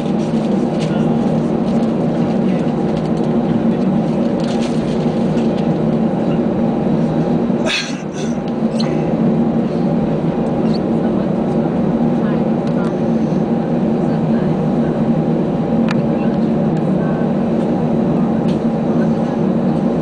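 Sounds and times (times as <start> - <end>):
airplane engines humming: 0.0 - 20.0.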